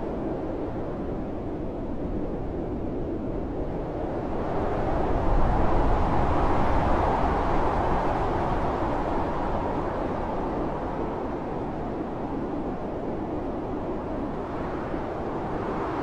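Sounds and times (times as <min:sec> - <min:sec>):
blizzard wind blowing hard: 0:00.0 - 0:16.0.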